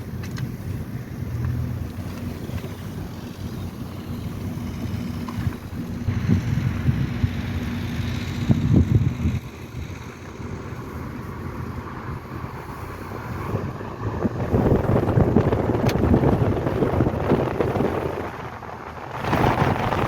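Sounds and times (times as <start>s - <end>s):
low rumble: 0.0s - 20.0s
wind buffeting microphone: 0.0s - 20.0s.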